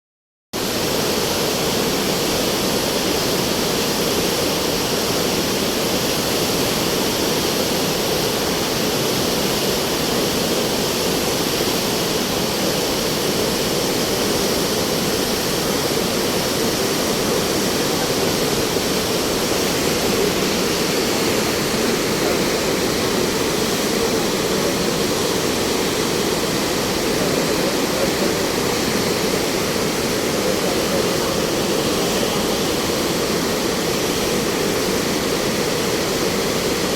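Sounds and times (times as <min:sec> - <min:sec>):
rushing water: 0:00.6 - 0:36.9.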